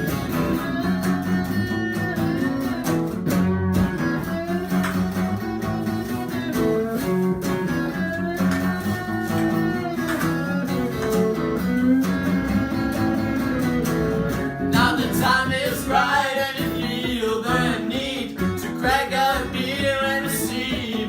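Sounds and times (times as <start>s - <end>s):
country guitars playing melody: 0.0s - 21.0s.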